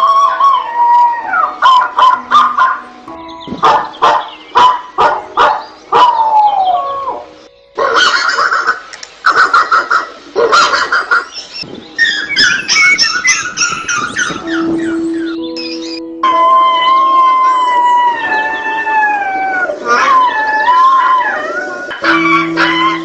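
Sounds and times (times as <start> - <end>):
high-pitched calls: 0.0 - 21.1, 21.9 - 23.0.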